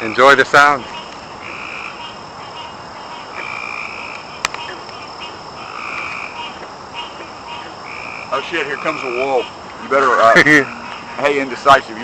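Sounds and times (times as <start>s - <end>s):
frogs trilling in chorus: 0.0s - 12.0s
high-pitched insect drone: 0.0s - 12.0s.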